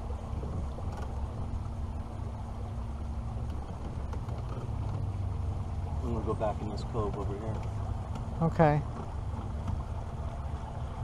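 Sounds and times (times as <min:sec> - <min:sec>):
outboard motor droning: 0:00.0 - 0:11.0
water noise: 0:00.0 - 0:11.0.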